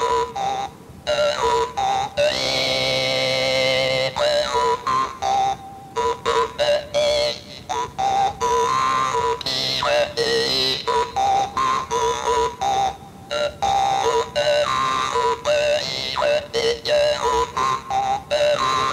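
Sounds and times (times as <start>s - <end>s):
slow song with sung melody: 0.0s - 18.9s.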